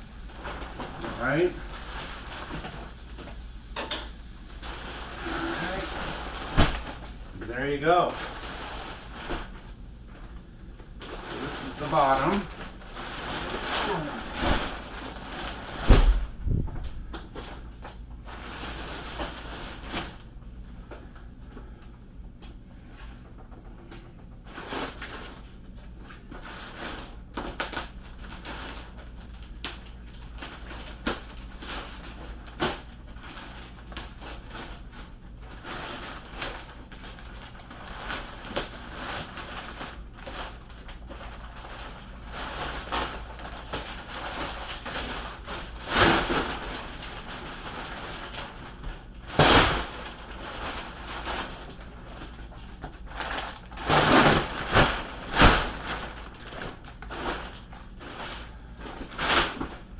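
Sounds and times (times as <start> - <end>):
plastic wrapping crinkling: 0.1 - 3.6, 4.4 - 20.4, 24.5 - 59.9
loud plastic crackles: 4.4 - 20.4, 26.2 - 59.9.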